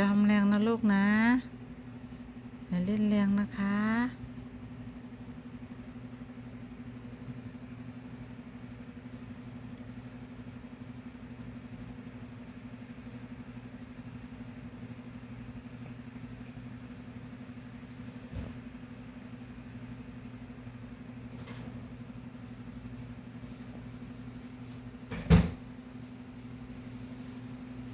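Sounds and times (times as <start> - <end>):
low hum with rapid flutter: 0.0 - 27.9.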